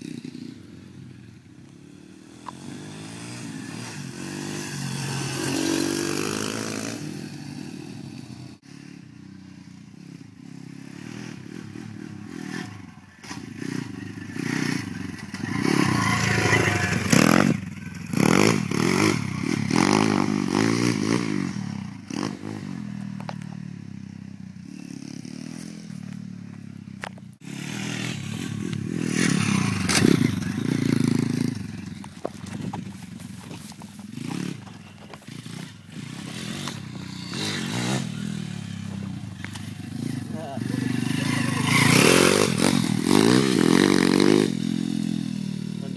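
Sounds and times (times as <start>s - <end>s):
dirt bike engines revving: 0.0s - 45.9s.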